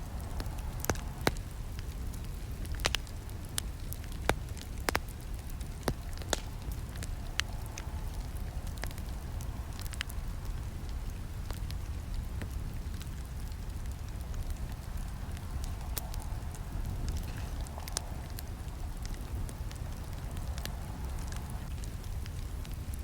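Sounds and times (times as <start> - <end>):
low rumble of flames: 0.0 - 23.0
wood crackling and popping: 0.0 - 23.0.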